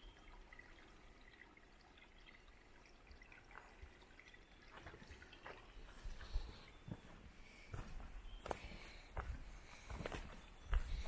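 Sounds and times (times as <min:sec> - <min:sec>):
faint trickle of stream: 0:00.0 - 0:11.0.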